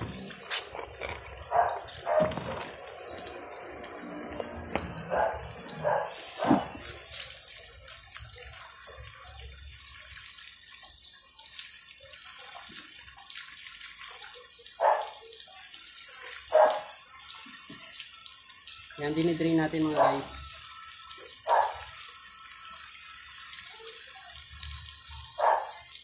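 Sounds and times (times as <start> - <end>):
hose water spraying on concrete: 0.0 - 26.0.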